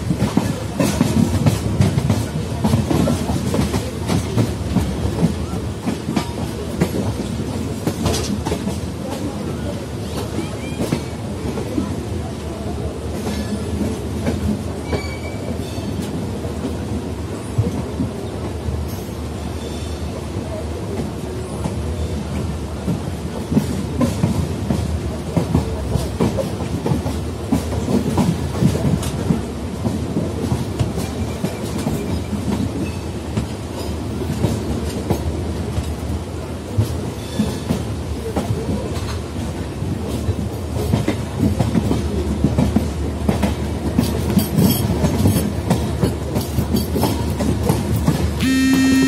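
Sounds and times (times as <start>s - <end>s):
wheels clickety-clack: 0.0s - 19.2s, 20.9s - 49.0s
train rumble: 0.0s - 49.0s.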